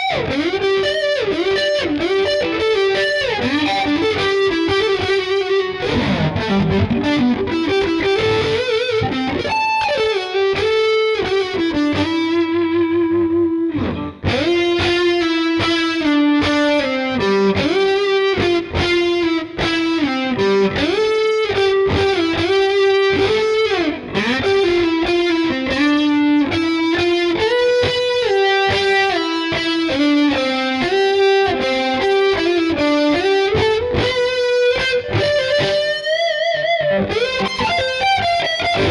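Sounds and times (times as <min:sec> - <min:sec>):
distorted electric guitar lead: 0:00.0 - 0:38.9.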